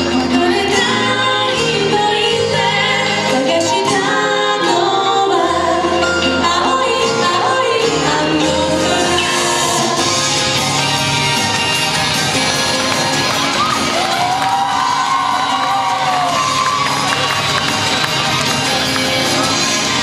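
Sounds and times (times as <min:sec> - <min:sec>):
instrumental backing with bass: 0:00.0 - 0:20.0.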